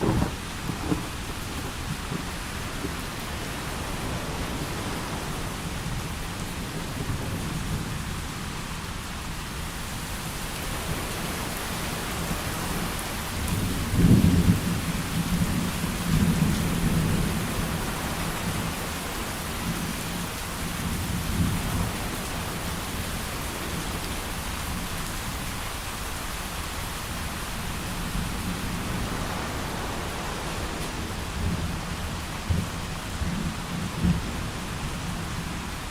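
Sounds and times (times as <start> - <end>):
thunder rumbling: 0.0 - 25.7, 26.7 - 35.9
heavy rain: 0.0 - 35.9.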